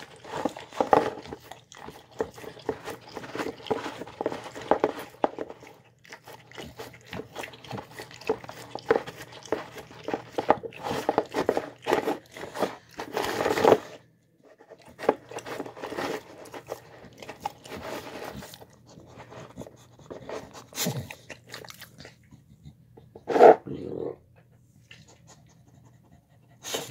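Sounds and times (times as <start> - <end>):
dog chewing and licking food: 0.0 - 23.0.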